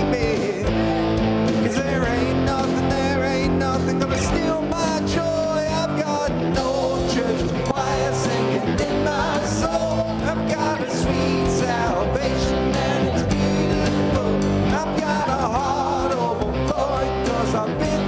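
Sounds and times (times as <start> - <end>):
person singing: 0.0 - 18.0
rock band playing: 0.0 - 18.0.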